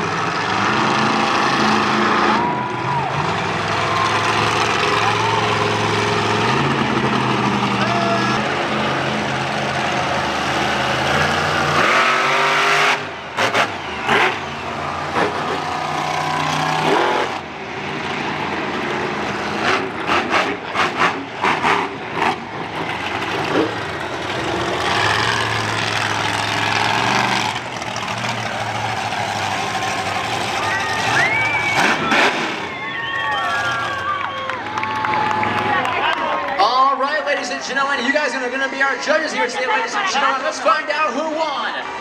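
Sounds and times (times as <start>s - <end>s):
monster truck engines running: 0.0s - 42.0s.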